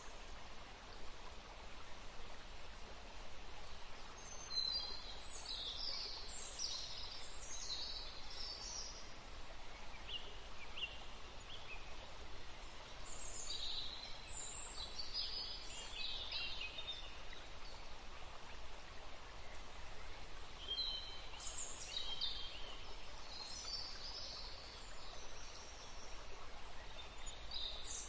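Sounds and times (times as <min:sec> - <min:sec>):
steady background hiss: 0:00.0 - 0:28.0
songbirds twittering: 0:03.7 - 0:28.0.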